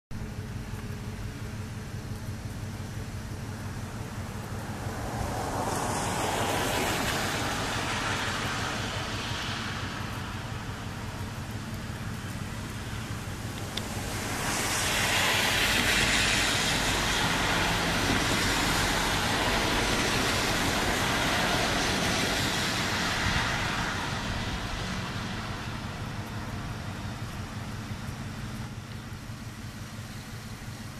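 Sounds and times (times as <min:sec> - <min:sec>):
vehicle passing with hiss: 0:00.2 - 0:30.9.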